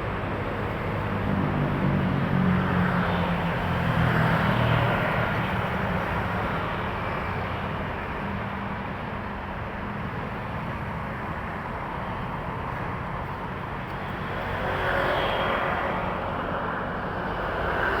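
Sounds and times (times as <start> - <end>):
trucks passing on highway: 0.0 - 18.0.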